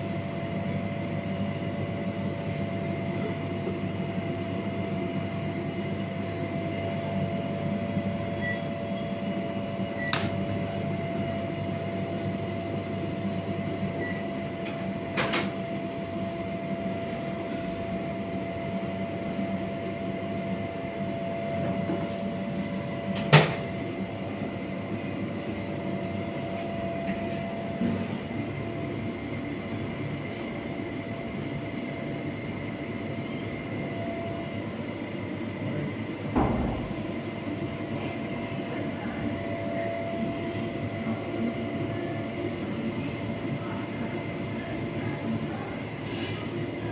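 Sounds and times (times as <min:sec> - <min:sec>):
machinery hum with whine: 0:00.0 - 0:46.9.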